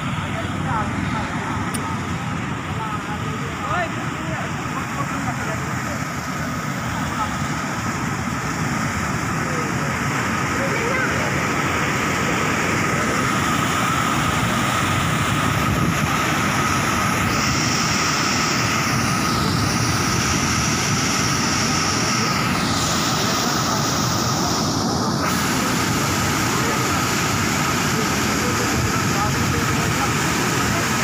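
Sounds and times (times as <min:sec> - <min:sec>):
water rushing: 0:00.0 - 0:31.0.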